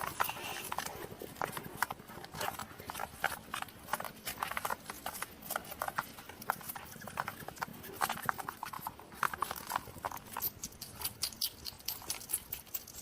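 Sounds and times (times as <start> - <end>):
hedgehog snuffling: 0.0 - 13.0.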